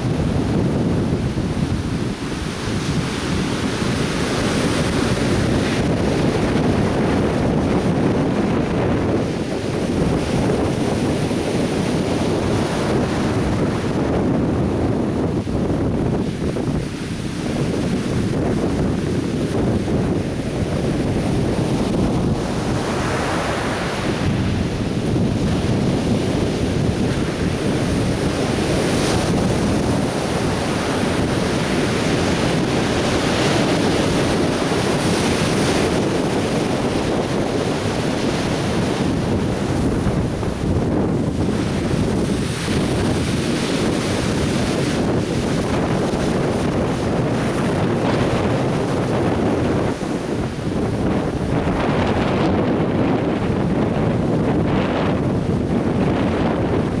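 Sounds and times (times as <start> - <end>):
surf washing onto beach: 0.0 - 57.0.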